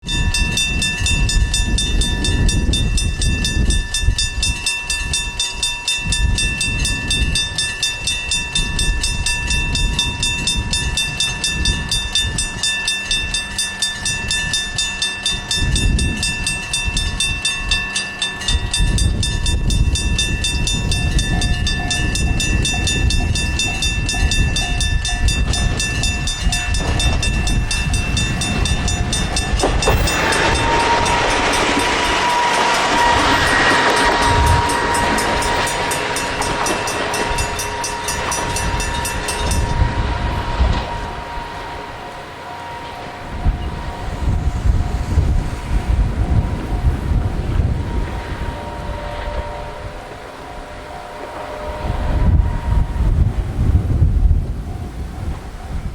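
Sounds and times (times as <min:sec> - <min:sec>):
level crossing alarm ringing: 0:00.0 - 0:53.2
diesel railcar rumbling: 0:00.0 - 0:55.9.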